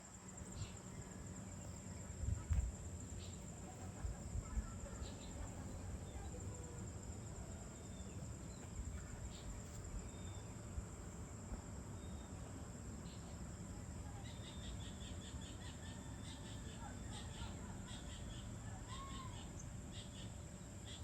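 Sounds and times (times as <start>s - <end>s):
insect trill: 0.0s - 21.0s.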